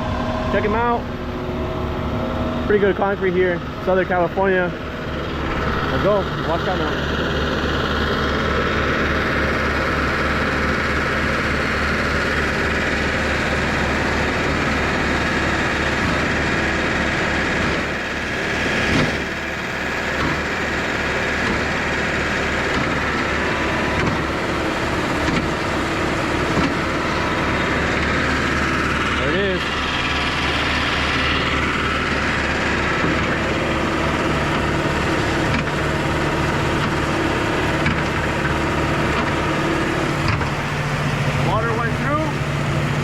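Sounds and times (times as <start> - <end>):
pump engine pulsing: 0.0 - 43.0.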